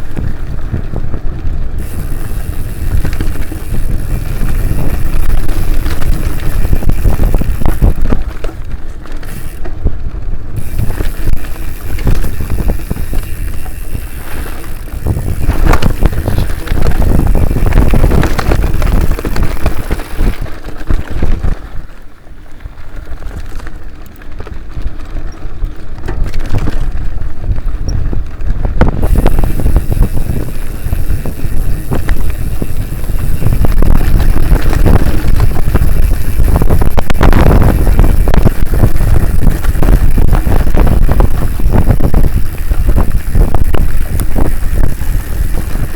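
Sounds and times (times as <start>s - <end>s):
bike rattling and clattering: 0.0s - 45.9s
wind buffeting microphone: 0.0s - 45.9s.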